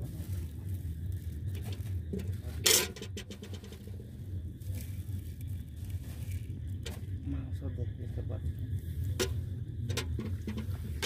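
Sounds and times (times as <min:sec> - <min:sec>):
puffed rice dropping onto plates: 0:00.0 - 0:07.2, 0:08.8 - 0:11.0
low steady rumble: 0:00.0 - 0:11.0.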